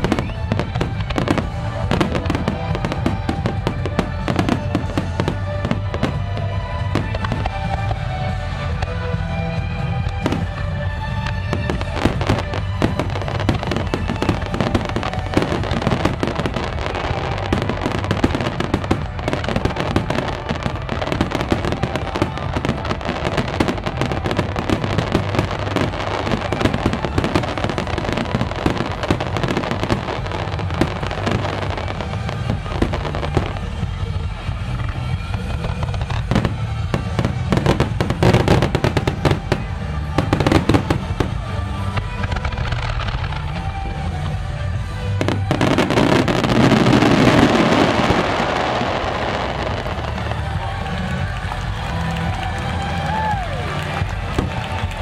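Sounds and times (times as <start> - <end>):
fireworks bursting and crackling: 0.0 - 55.0
music playing: 0.0 - 55.0.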